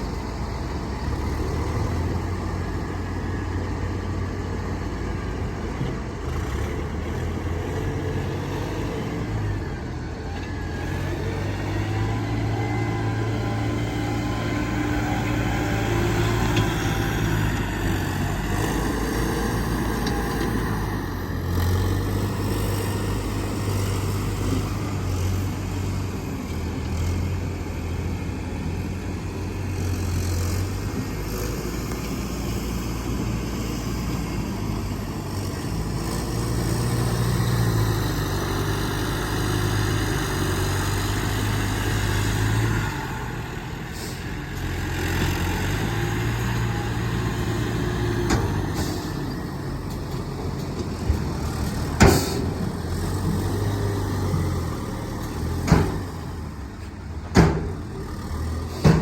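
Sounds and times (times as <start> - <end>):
heavy diesel machinery humming: 0.0 - 59.0.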